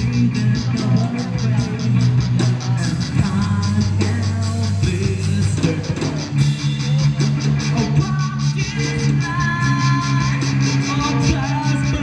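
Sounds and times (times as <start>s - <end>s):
drum kit cymbal beat: 0.0s - 12.0s
electric guitars: 0.0s - 12.0s.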